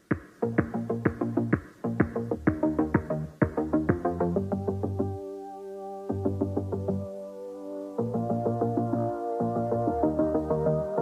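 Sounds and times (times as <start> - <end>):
electronic synth music: 0.4 - 11.0.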